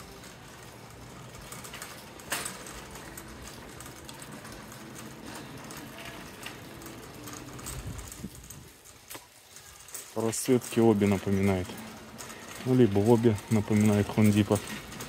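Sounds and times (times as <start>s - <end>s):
shopping cart rolling on concrete: 0.0s - 15.0s.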